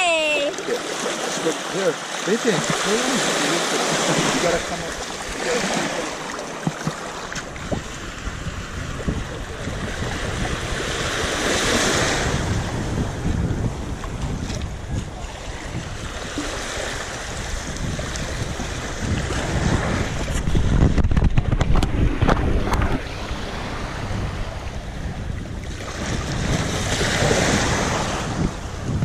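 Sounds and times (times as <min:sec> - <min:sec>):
small waves washing in: 0:00.2 - 0:29.0
wind buffeting microphone: 0:04.1 - 0:29.0.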